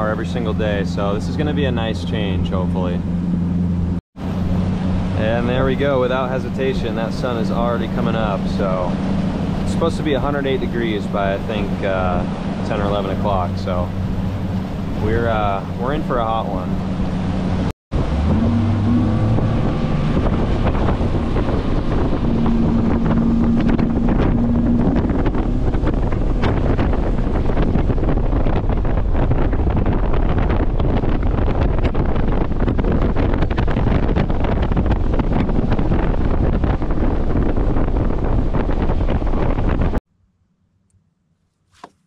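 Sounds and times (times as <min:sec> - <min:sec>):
outboard motor running: 0:00.0 - 0:40.0
wind rush on microphone: 0:00.0 - 0:40.0.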